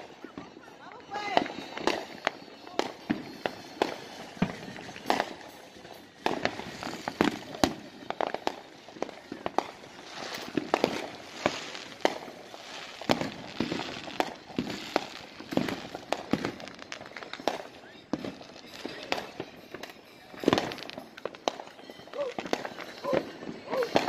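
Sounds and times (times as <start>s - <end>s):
fireworks pops and bangs: 0.0s - 24.0s.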